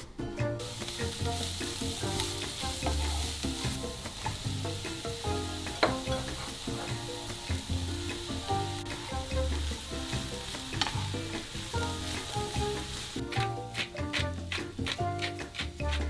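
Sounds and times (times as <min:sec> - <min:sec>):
vegetables sizzling in hot oil: 0:00.6 - 0:16.0
spatula tapping a pan: 0:00.7 - 0:16.0
wooden spatula stirring: 0:00.7 - 0:16.0.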